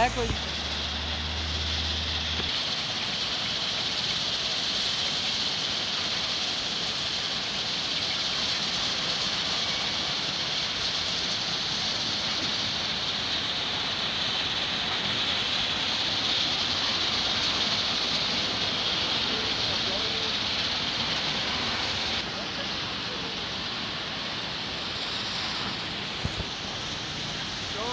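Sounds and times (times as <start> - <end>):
steady hiss: 0.0 - 27.9.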